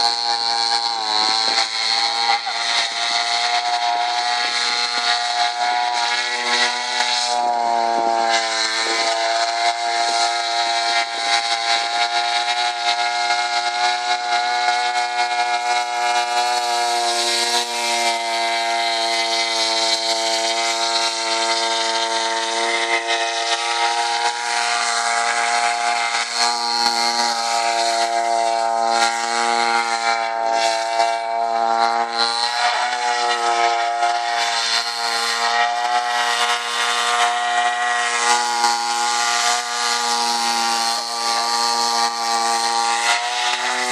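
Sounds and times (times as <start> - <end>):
two-stroke engine driving propeller: 0.0 - 43.9.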